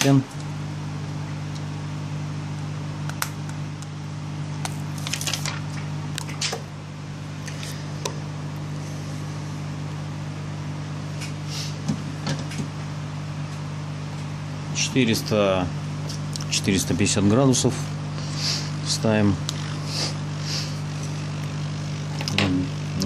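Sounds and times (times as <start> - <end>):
heat gun blower humming: 0.0 - 23.0.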